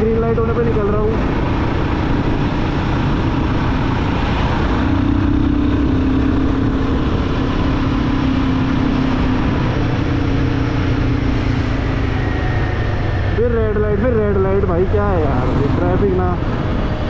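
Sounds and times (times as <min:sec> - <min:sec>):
road and air noise: 0:00.0 - 0:17.0.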